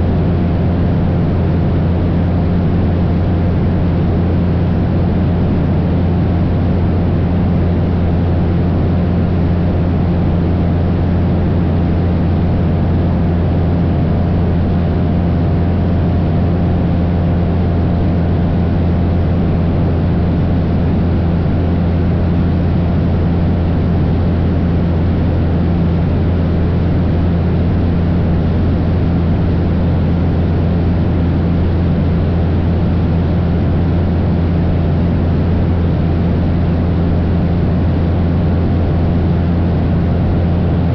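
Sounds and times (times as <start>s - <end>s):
airplane engine and propeller droning: 0.0s - 40.9s.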